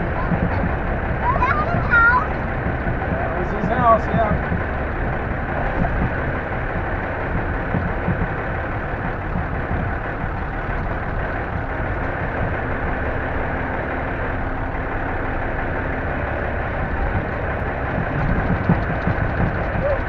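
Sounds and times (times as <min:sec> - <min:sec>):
diesel truck engine running: 0:00.0 - 0:20.0
drivetrain and road noise: 0:00.0 - 0:20.0.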